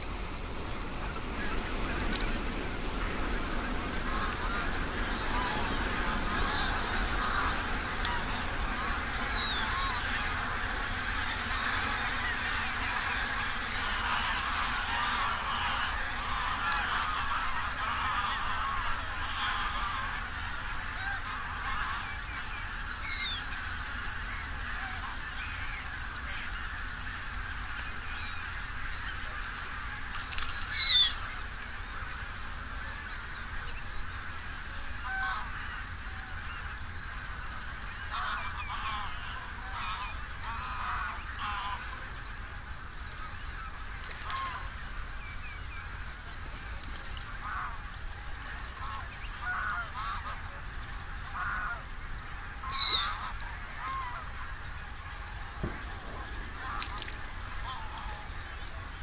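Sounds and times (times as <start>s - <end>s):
geese honking: 0.9s - 59.0s.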